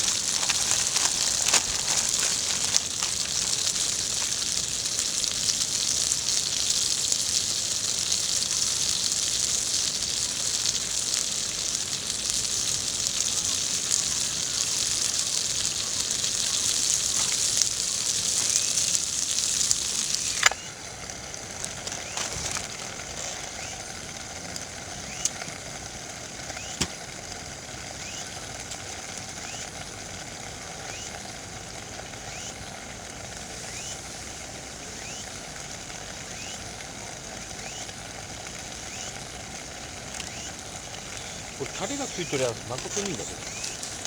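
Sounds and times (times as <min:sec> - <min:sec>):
campfire crackle: 0:00.0 - 0:44.0
dumplings sizzling in a pan: 0:00.0 - 0:44.0.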